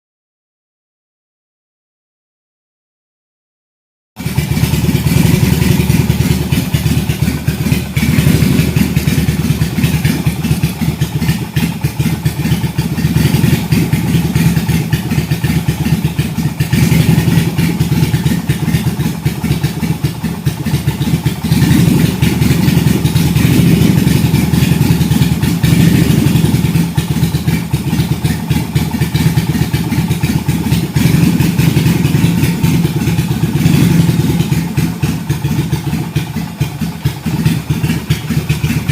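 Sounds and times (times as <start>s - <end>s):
motorcycle engine idling: 4.2s - 38.9s.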